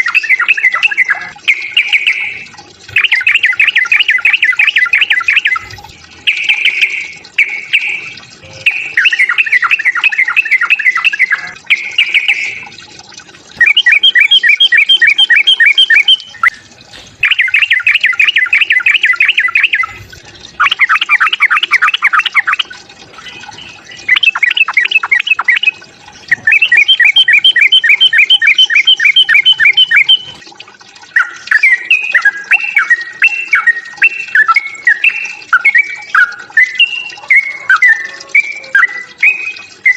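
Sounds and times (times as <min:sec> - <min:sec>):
bulbul singing bubbling song: 0:00.0 - 0:39.9.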